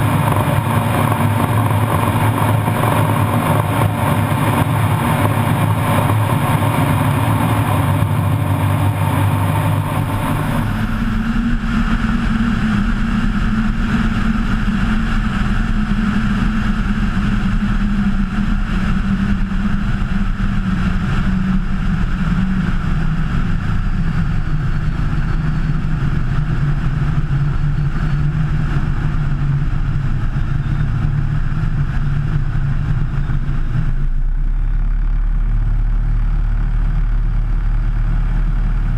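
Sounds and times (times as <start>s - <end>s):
plane engine and propeller: 0.0s - 38.9s.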